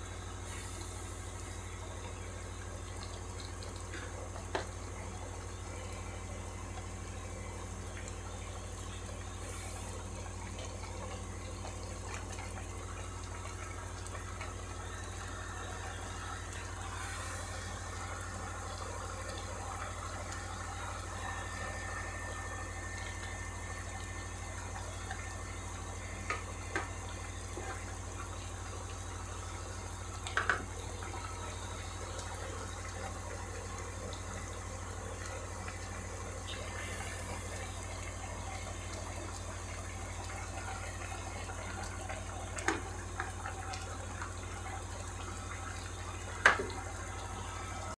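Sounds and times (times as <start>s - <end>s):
broth simmering in a wok: 0.0s - 47.9s
constant low hum: 0.0s - 47.9s.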